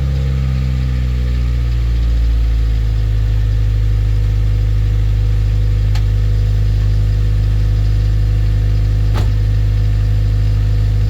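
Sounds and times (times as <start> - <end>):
car engine idling: 0.8 - 11.0.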